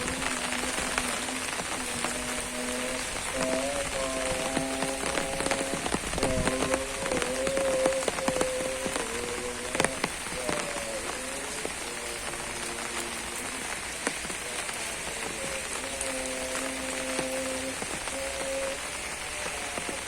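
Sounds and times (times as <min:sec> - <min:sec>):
heavy drops ticking: 0:00.0 - 0:20.0
steady rain: 0:00.0 - 0:20.0.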